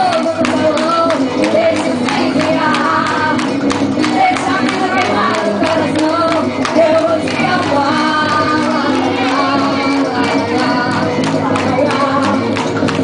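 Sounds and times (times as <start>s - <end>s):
folk dance music with singing: 0.0s - 13.0s
percussion beat: 0.0s - 13.0s.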